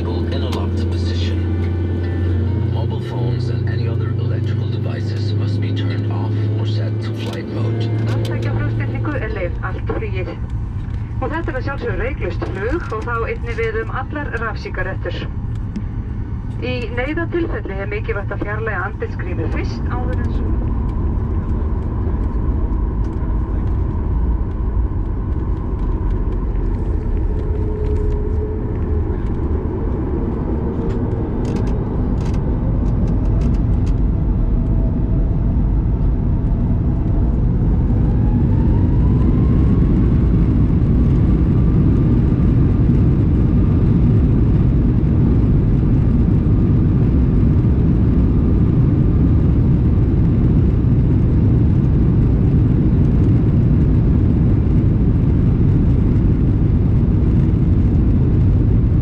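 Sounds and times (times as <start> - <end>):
jet engine low rumble: 0.0 - 59.0
jet engine whine rising: 0.0 - 59.0.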